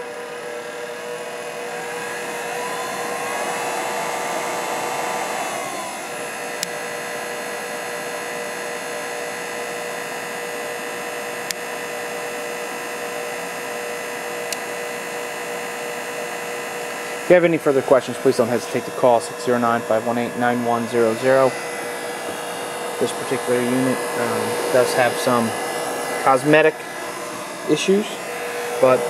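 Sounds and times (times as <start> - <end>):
mixer motor whining: 0.0 - 29.0.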